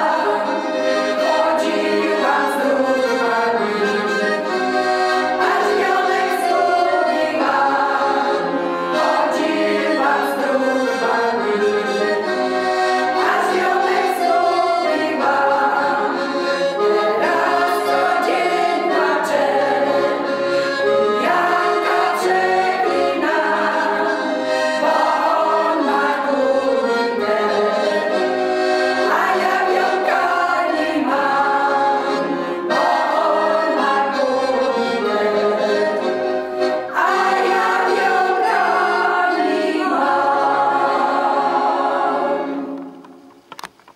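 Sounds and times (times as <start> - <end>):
women's choir singing: 0.0 - 43.2
accordion: 0.0 - 43.9.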